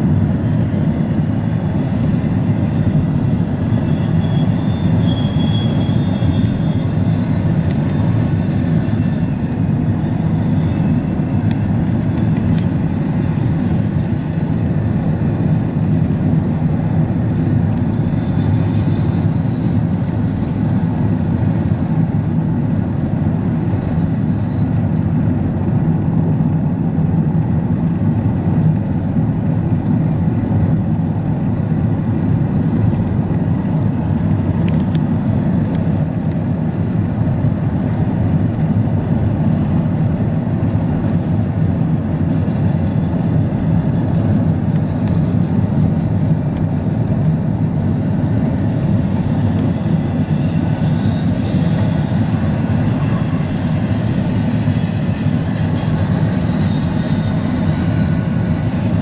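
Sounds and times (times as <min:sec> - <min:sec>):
freight train rolling: 0:00.0 - 0:59.0.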